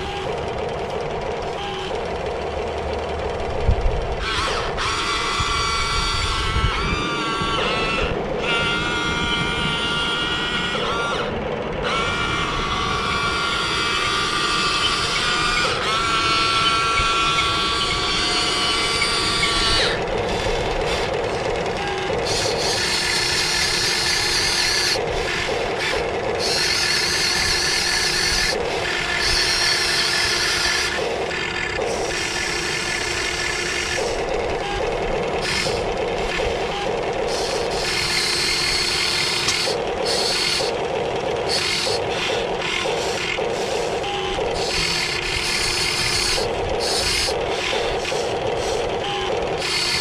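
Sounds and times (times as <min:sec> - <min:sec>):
toy excavator motors whining: 0:00.0 - 0:50.0.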